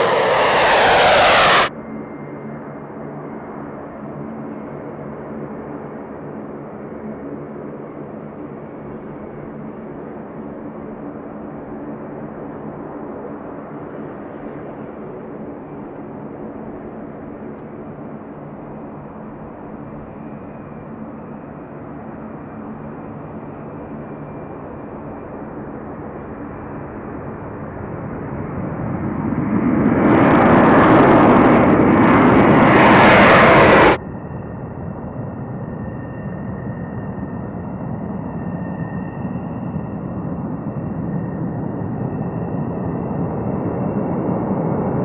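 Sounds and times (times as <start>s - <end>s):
jet engine high whine: 0.0s - 45.0s
jet engines rumbling at takeoff: 0.0s - 45.0s.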